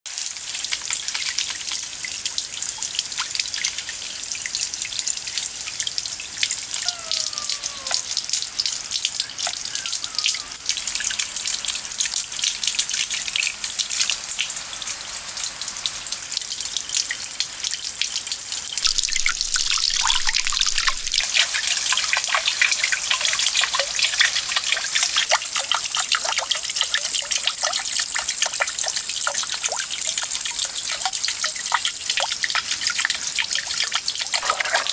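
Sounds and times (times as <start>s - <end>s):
water trickling into pond: 0.1s - 34.9s.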